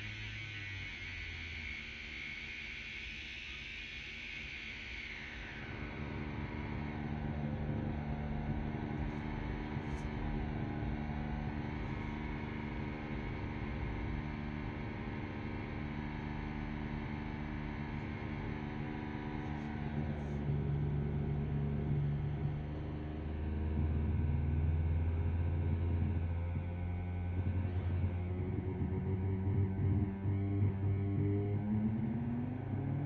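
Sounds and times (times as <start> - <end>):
engine humming steadily: 5.3 - 33.0.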